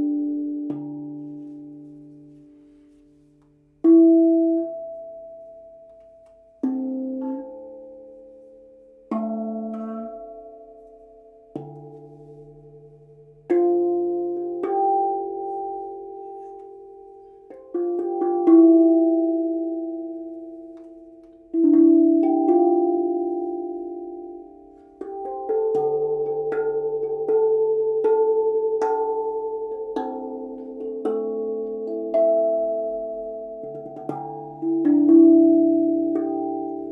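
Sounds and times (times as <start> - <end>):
steel tongue drum melody: 0.0 - 36.9.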